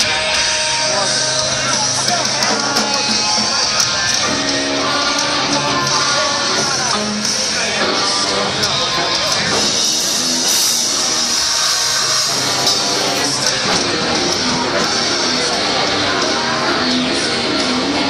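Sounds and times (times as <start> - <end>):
loud rock music with guitar: 0.0 - 18.0.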